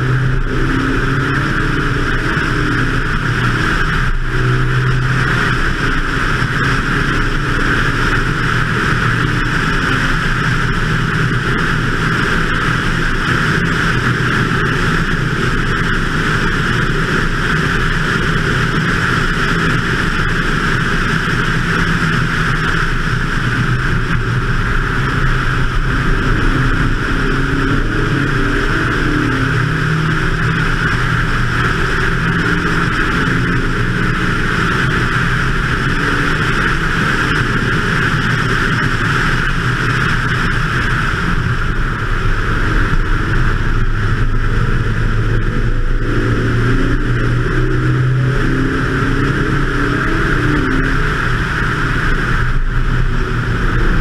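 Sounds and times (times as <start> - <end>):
car engine pulling: 0.0 - 54.0
rush of wind: 0.0 - 54.0.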